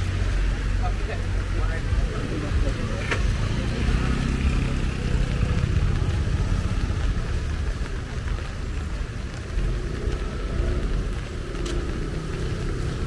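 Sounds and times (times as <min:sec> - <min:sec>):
low rumble of vehicle engines: 0:00.0 - 0:13.0
traffic hiss: 0:00.0 - 0:13.0.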